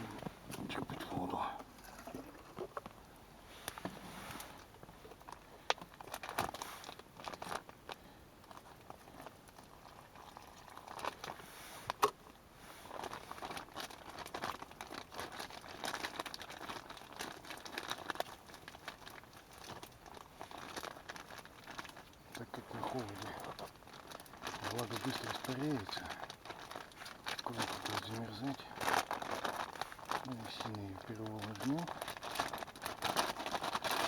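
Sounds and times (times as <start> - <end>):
plastic bag crinkling: 3.7 - 11.4, 12.8 - 34.0.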